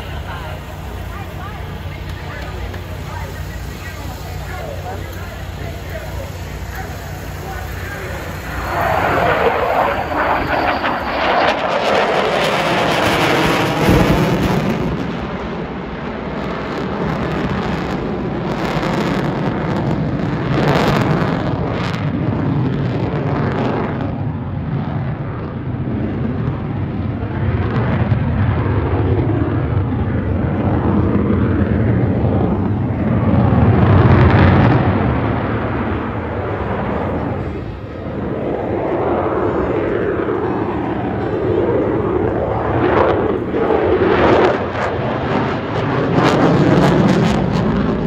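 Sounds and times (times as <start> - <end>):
airplane flying past: 0.0 - 48.0.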